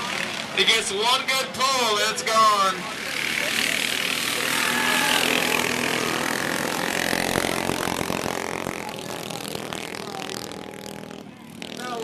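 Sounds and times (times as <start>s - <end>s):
minibike engines passing: 0.0s - 12.0s.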